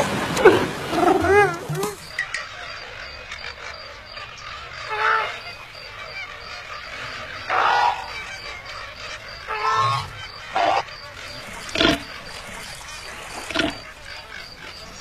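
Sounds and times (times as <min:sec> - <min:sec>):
animal calls: 0:00.1 - 0:15.0.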